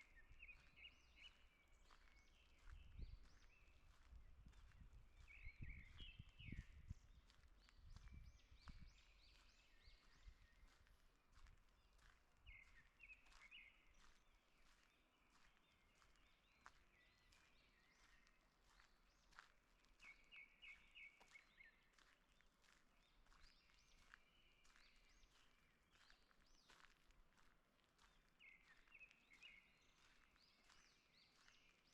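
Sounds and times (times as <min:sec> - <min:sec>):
footsteps on forest floor: 0:00.4 - 0:06.0, 0:07.2 - 0:31.9.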